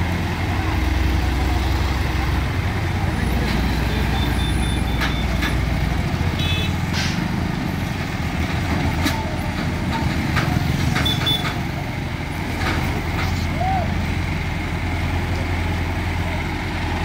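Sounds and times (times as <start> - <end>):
low diesel engine drone: 0.0 - 17.0.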